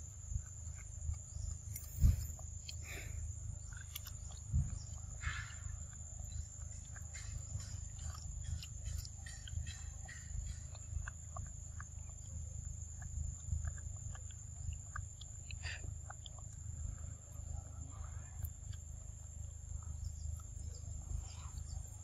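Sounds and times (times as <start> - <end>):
high insect drone: 0.0 - 22.0
scattered chirps and clicks: 0.0 - 22.0.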